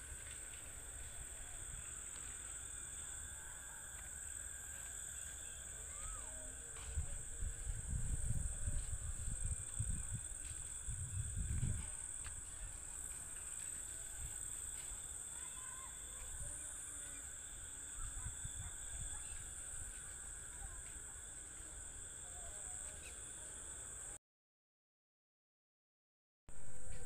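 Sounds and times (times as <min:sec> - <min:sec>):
high-pitched insect chirring: 0:00.1 - 0:24.1.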